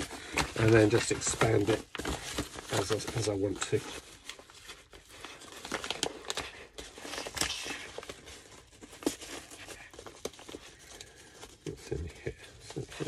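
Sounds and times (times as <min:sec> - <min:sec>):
plastic bag crinkling and tearing: 0:00.0 - 0:13.0.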